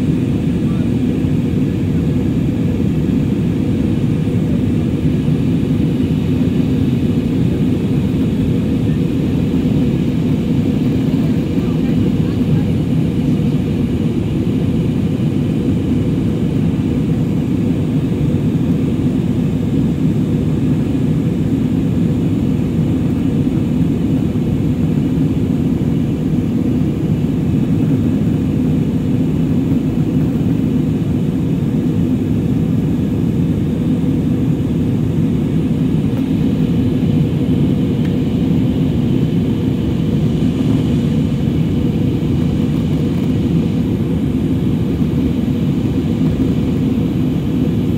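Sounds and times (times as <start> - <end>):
airliner cabin engine roar: 0.0 - 47.9.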